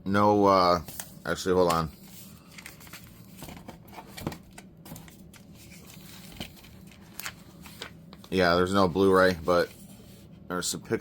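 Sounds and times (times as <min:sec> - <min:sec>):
paper crinkling: 0:00.9 - 0:10.2.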